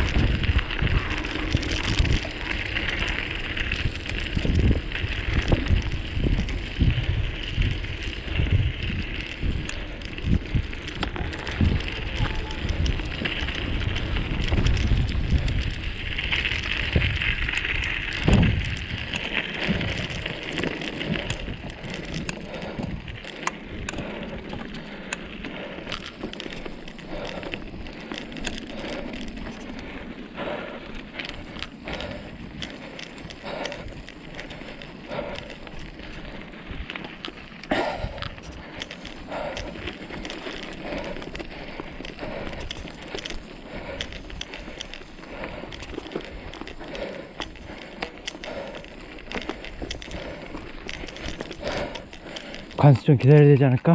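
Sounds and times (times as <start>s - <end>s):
crackling and crunching on ground: 0.0s - 53.9s
wind buffeting microphone: 0.0s - 53.9s.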